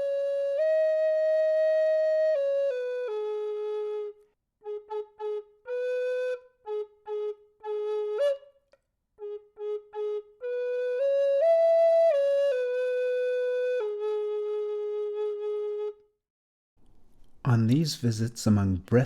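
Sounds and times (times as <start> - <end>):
solo flute melody: 0.0 - 16.2.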